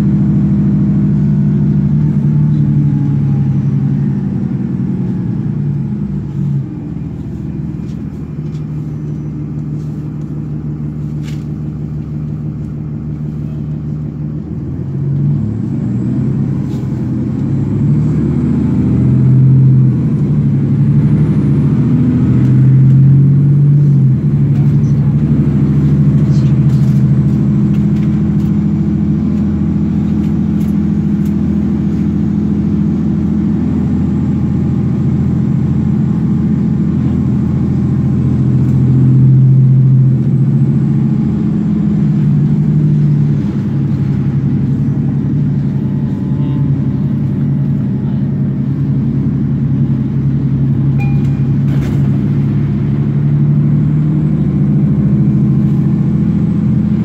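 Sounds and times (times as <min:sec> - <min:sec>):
bus diesel engine hum: 0:00.0 - 0:57.0
transmission shifting up: 0:00.0 - 0:57.0.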